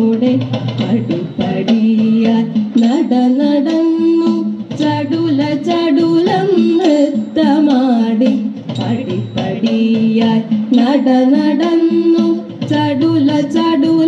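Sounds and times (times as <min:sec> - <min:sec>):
light instrumental accompaniment: 0:00.0 - 0:14.0
woman singing: 0:00.0 - 0:14.0.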